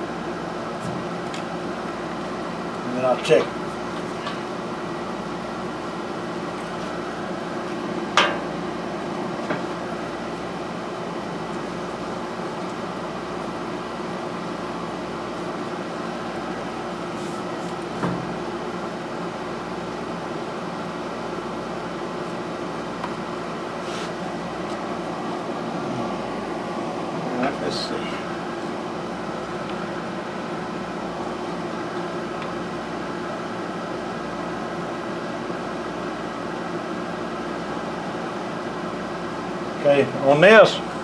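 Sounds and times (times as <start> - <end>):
machine hum: 0.0 - 35.5.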